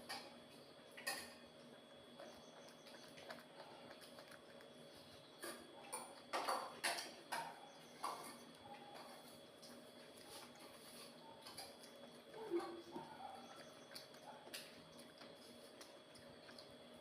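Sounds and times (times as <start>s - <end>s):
faint steady hum: 0.0s - 17.0s
bites and chewing: 0.1s - 17.0s.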